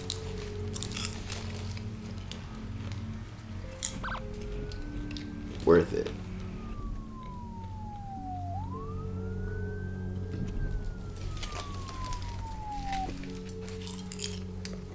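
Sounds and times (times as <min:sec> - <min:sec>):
wailing siren: 0:00.0 - 0:14.9.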